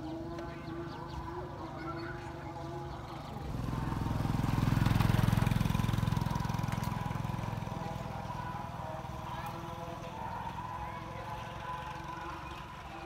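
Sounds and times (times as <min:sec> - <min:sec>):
motorbike engine passing by: 0:00.0 - 0:13.0.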